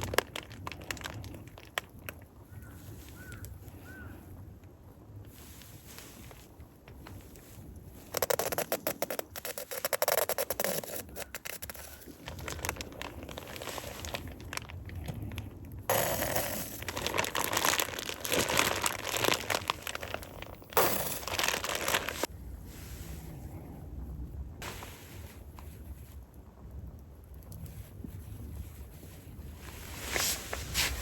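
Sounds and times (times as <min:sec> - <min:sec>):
rustling and crinkling handling noise: 0:00.0 - 0:03.8, 0:05.2 - 0:23.1, 0:27.6 - 0:31.0.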